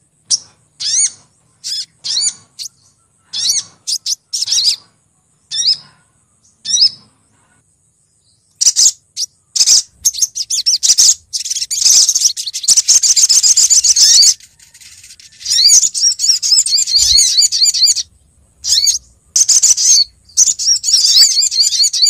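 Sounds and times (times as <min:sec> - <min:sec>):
bird chirping and twittering: 0:00.2 - 0:07.4, 0:08.1 - 0:22.0.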